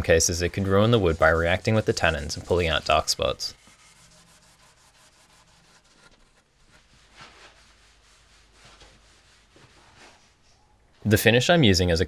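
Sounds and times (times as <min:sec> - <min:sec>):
steel wool rubbing wood: 0:00.2 - 0:10.5.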